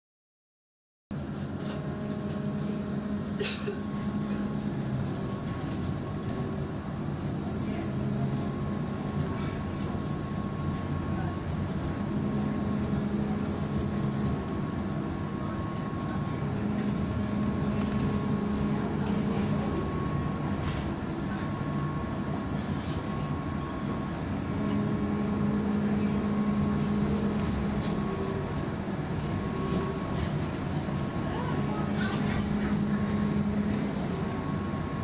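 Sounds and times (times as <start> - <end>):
low motor hum: 1.2 - 35.0
tram wheels rumbling on rail: 1.2 - 35.0.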